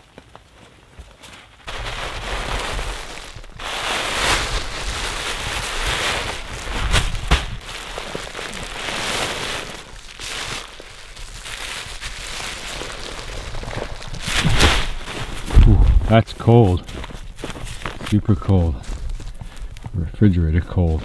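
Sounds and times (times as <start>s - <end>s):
moss rustling and crackling: 1.2s - 19.8s.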